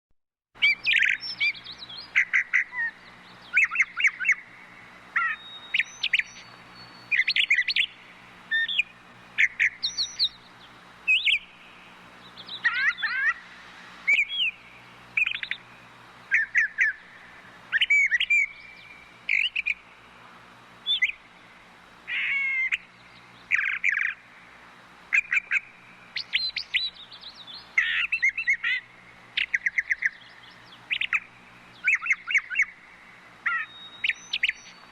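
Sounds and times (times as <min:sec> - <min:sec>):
bird singing: 0:00.6 - 0:20.2, 0:20.8 - 0:34.9.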